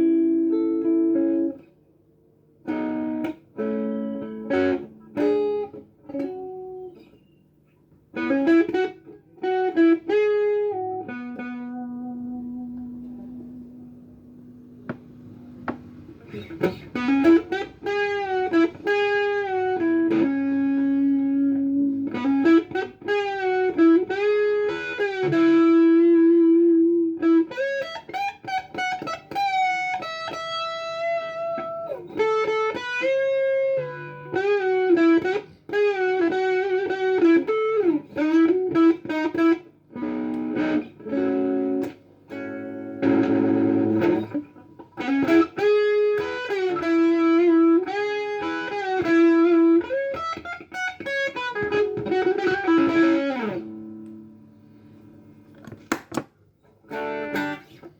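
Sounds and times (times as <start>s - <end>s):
overdriven electric guitar lead: 0.0s - 1.7s, 2.6s - 7.2s, 8.1s - 57.9s
electric guitar chords: 0.0s - 1.8s, 2.6s - 7.2s, 8.0s - 57.9s.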